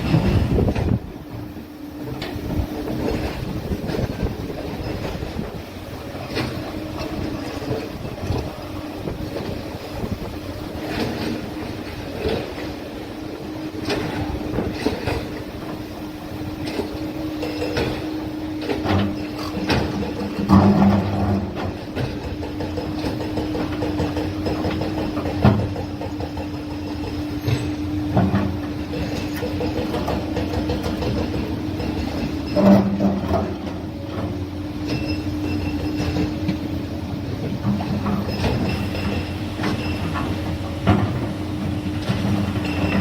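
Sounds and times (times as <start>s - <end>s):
excavator diesel engine whining: 0.0s - 43.0s.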